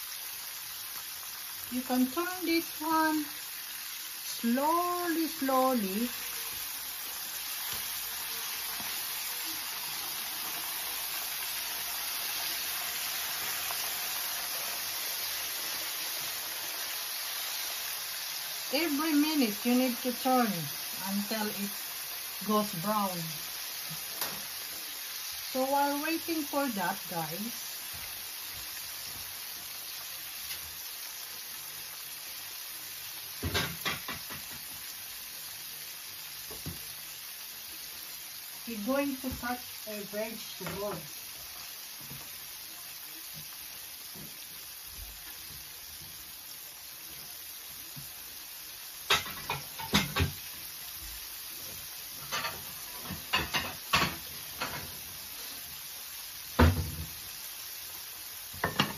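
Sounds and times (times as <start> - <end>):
chicken frying in sizzling oil: 0.0 - 58.9.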